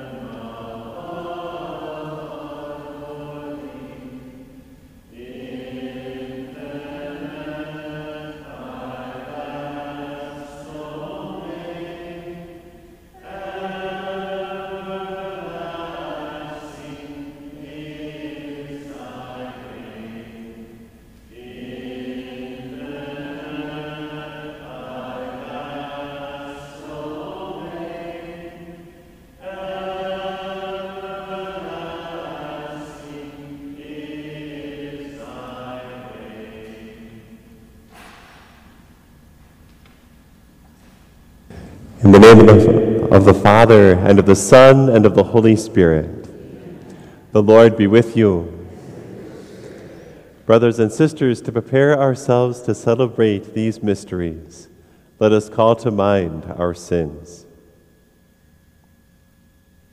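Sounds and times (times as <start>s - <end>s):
voices singing a hymn: 0.0s - 59.7s.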